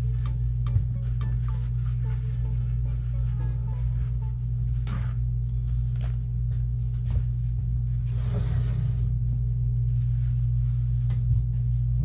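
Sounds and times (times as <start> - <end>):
paper towels rustling: 0.0 - 12.0.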